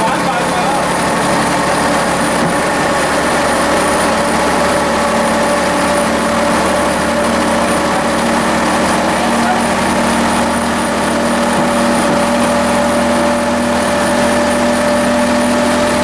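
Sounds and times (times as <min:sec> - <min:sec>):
railcar engine drone: 0:00.0 - 0:16.0.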